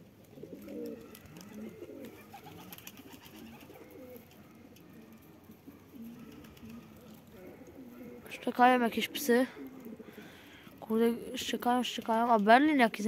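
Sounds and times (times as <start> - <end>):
pigeons cooing: 0.0 - 11.6.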